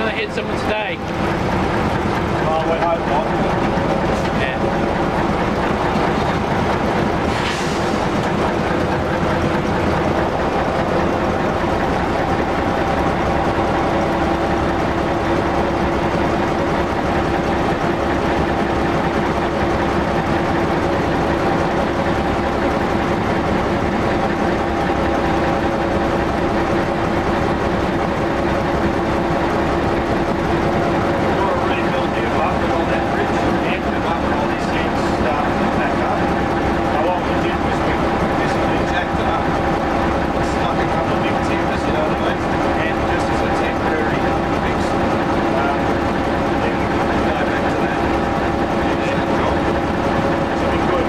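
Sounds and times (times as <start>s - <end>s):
diesel engine drone: 0.0s - 51.0s
train wheels on track: 0.0s - 51.0s.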